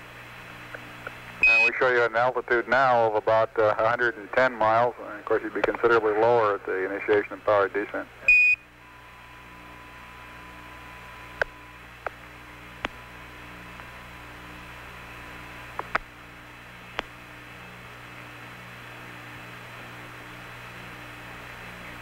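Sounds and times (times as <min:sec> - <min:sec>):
sharp static clicks: 0:00.0 - 0:08.8, 0:09.6 - 0:22.0
faint pulsing low buzz: 0:00.0 - 0:22.0
radio hum and hiss: 0:00.0 - 0:22.0.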